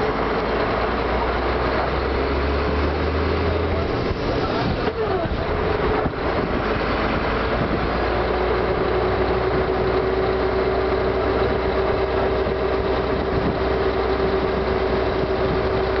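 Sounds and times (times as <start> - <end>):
diesel engine droning: 0.0 - 16.0
road noise: 0.0 - 16.0.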